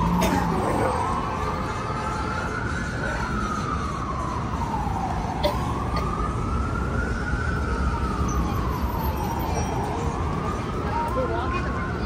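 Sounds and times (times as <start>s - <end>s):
city traffic rumble: 0.0s - 12.0s
siren wailing: 0.0s - 12.0s.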